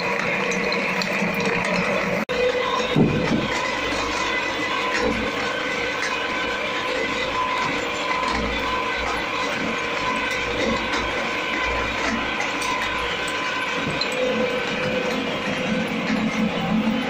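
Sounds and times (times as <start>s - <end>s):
shredder mechanical whir: 0.0s - 17.0s.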